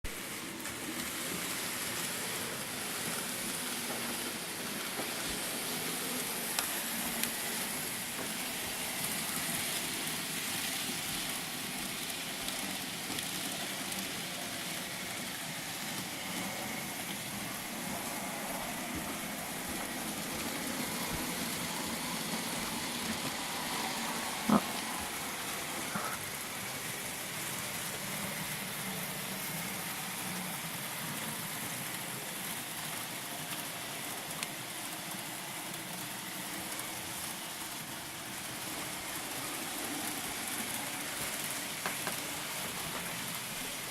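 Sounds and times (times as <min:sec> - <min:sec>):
model train whirring rattle: 0:00.5 - 0:43.9.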